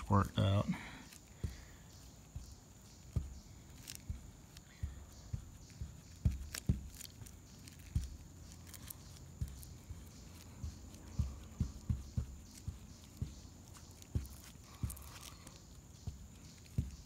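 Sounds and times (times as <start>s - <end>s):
brush dabbing resin soft thuds: 0.0s - 17.0s.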